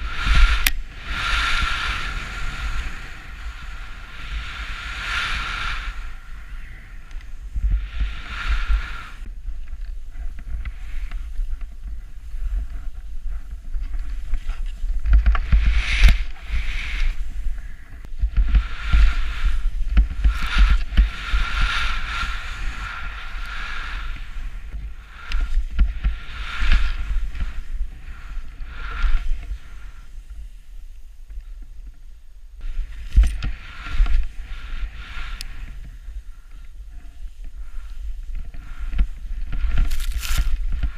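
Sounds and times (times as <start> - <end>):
skis hissing through powder snow: 0.0 - 31.1, 32.6 - 40.9
low wind rumble: 0.0 - 40.9.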